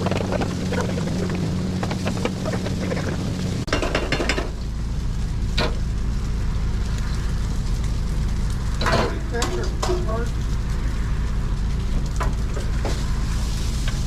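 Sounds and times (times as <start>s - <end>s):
food sizzling: 0.0s - 14.0s
low machine hum: 0.0s - 14.0s.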